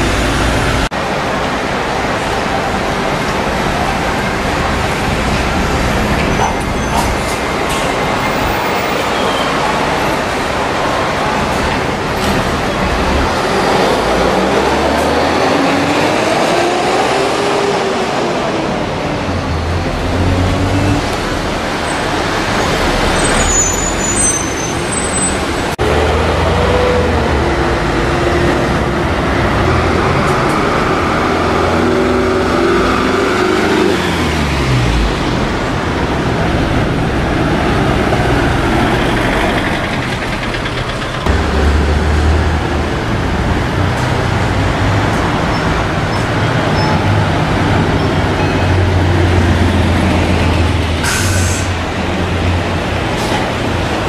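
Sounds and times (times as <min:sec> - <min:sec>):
diesel buses driving past: 0:00.0 - 0:54.0.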